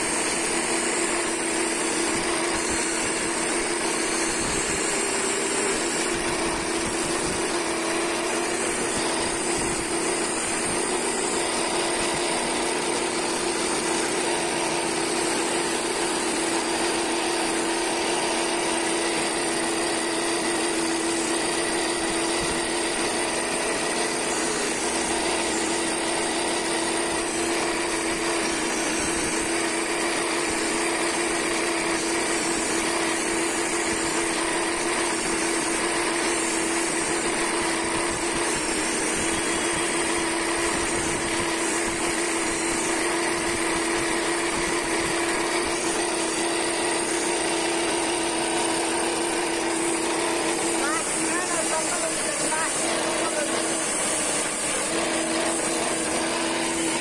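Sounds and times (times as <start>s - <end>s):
lathe drone: 0.0s - 57.0s
steel scraping on spinning wood: 0.0s - 57.0s.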